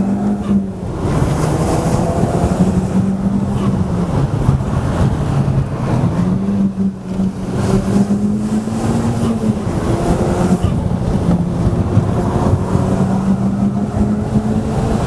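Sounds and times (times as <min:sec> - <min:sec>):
car engine from inside cabin: 0:00.0 - 0:15.0.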